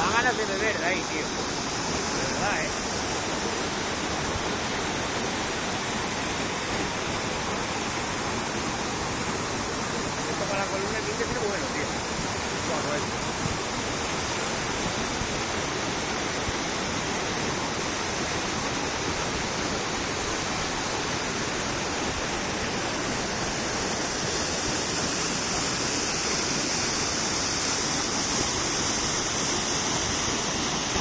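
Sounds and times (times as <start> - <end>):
waterfall rushing and splashing: 0.0 - 31.0.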